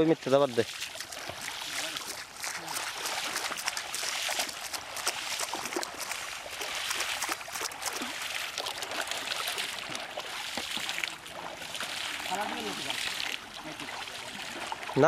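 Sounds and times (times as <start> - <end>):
hands slapping water: 0.0 - 15.0
water splashing and sloshing: 0.0 - 15.0.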